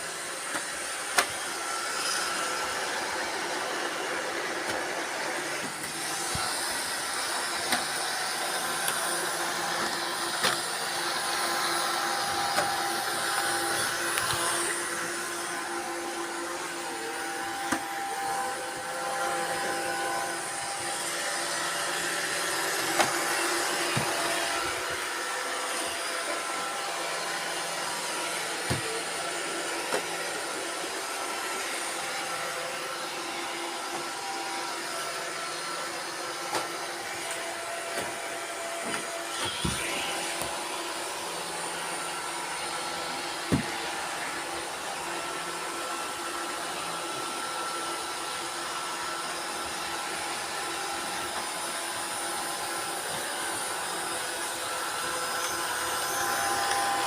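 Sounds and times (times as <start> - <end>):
robot vacuum cleaners whirring: 0.0 - 57.0.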